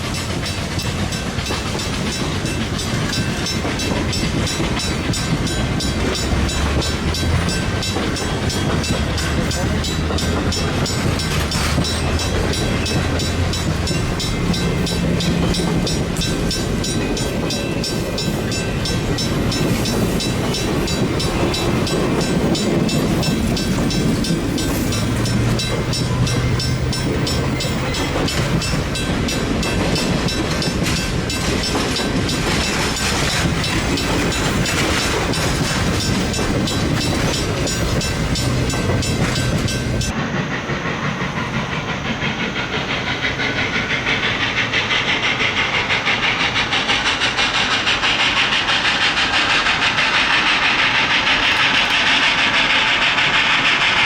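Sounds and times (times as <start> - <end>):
rhythmic rushing sound: 0.0 - 54.0
steam locomotive passing: 0.0 - 54.0
train cars clattering over rail joints: 0.0 - 54.0.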